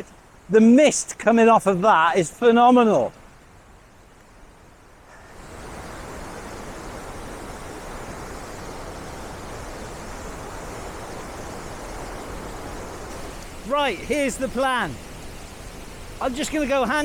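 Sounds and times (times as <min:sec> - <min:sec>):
rush of falling water: 0:00.0 - 0:17.0.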